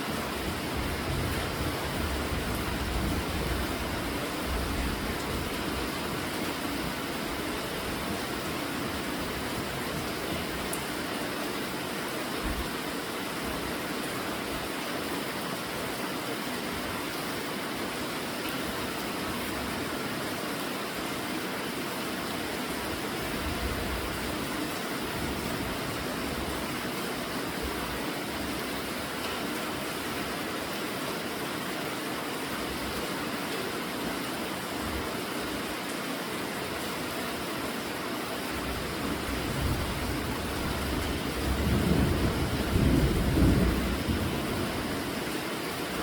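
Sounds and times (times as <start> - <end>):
steady rainfall hissing: 0.0 - 46.0.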